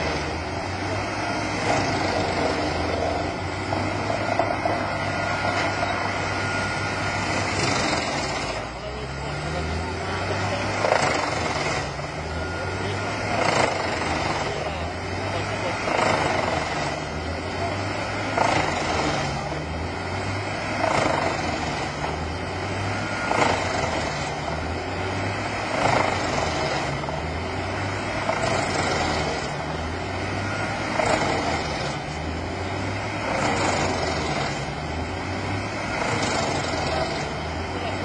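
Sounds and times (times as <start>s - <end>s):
wood chipper engine drone: 0.0s - 38.0s.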